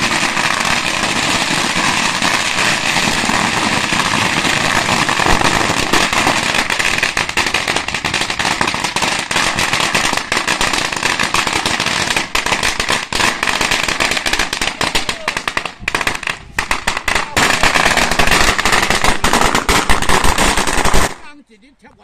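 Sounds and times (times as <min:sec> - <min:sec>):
firecrackers crackling: 0:00.0 - 0:21.4.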